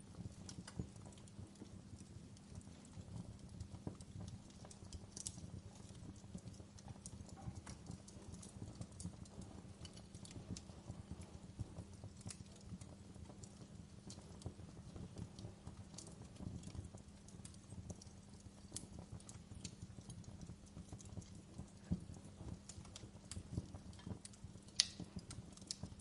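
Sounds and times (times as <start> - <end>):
burning logs crackling and popping: 0.0 - 26.0
low rumble of flames: 0.0 - 26.0.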